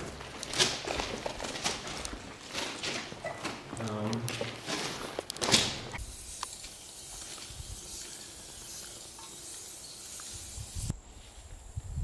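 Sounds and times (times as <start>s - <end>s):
outdoor ambient hiss: 0.0s - 12.0s.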